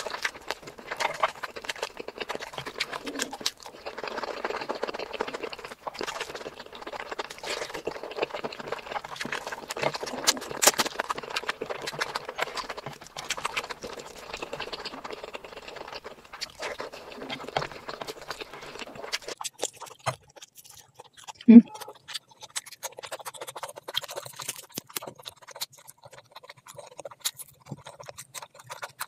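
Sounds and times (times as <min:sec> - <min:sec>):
fingers squishing rice and curry: 0:00.0 - 0:29.0
wet chewing: 0:00.0 - 0:29.0.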